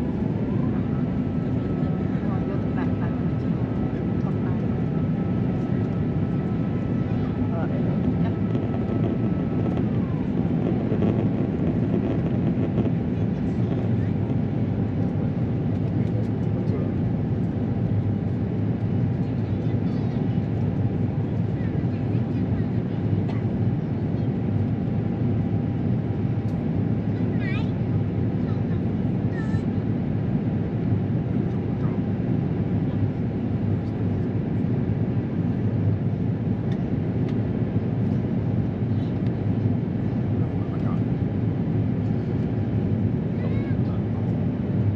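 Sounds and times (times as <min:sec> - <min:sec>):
aircraft cabin engine rumble: 0:00.0 - 0:44.9.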